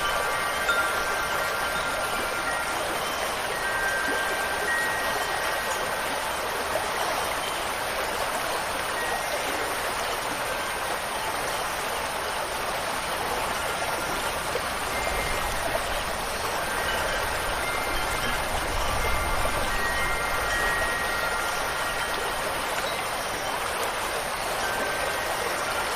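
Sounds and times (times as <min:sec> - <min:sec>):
flowing water: 0:00.0 - 0:25.9
rain: 0:00.0 - 0:25.9
wind chimes ringing: 0:00.0 - 0:25.9.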